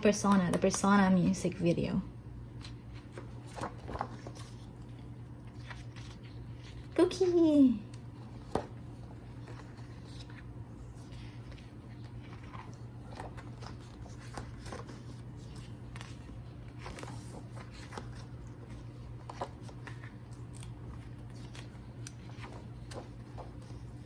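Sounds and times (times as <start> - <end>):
pages turning: 2.6 - 24.0.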